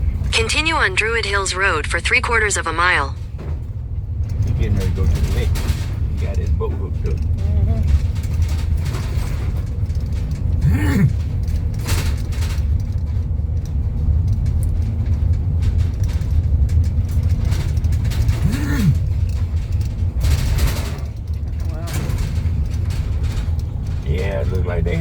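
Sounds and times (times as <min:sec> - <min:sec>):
car cabin road rumble: 0:02.8 - 0:25.0.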